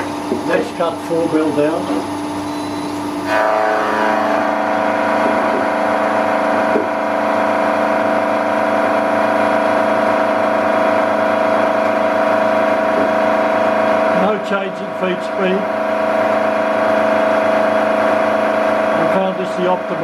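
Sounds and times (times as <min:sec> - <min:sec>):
milling cutter whining on steel: 0:00.0 - 0:20.0.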